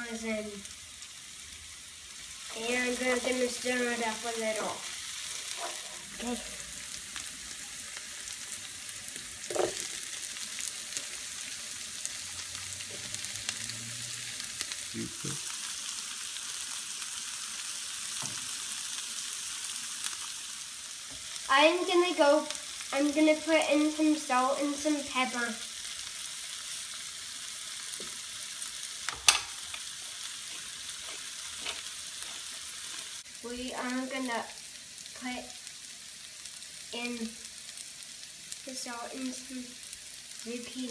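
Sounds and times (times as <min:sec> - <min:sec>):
onions sizzling in oil: 0:00.0 - 0:40.9.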